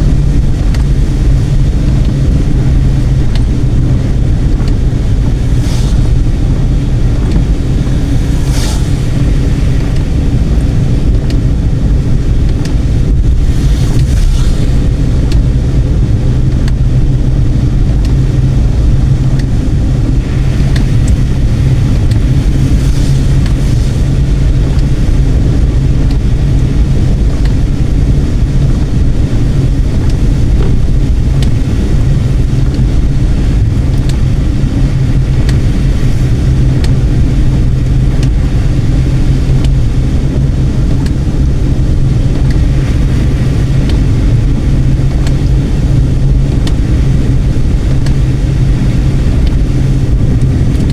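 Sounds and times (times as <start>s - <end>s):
car road rumble: 0.0s - 50.9s
wind hiss: 0.0s - 50.9s.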